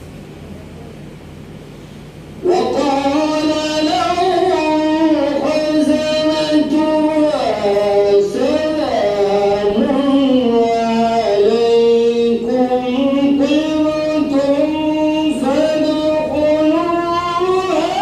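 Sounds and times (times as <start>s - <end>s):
man reciting in melodic chant: 2.4s - 18.0s.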